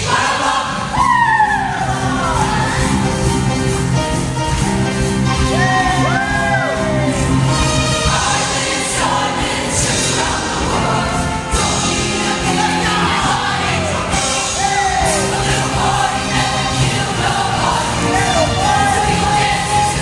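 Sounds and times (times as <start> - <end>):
choir singing: 0.0 - 4.6, 5.6 - 20.0
amplified backing music: 0.0 - 20.0.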